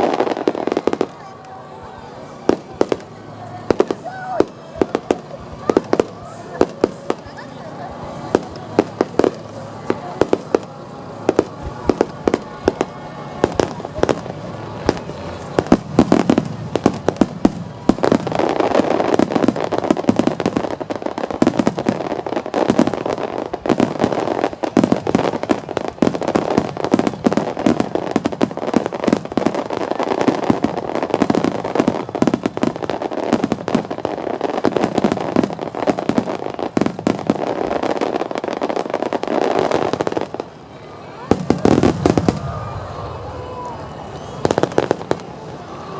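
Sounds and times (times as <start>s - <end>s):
fireworks bursting: 0.0s - 45.9s
fireworks crackle: 0.0s - 45.9s.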